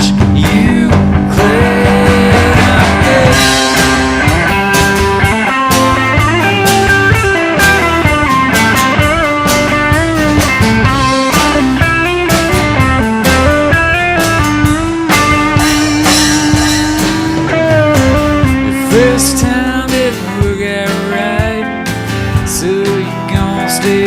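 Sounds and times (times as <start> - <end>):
drums: 0.0 - 24.0
lead guitar with bent notes: 0.0 - 24.0
live band playing: 0.0 - 24.0.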